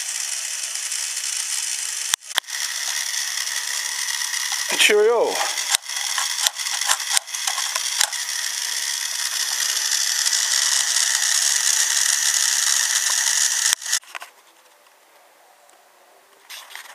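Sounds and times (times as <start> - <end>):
toy train motor whirring: 0.0 - 14.1.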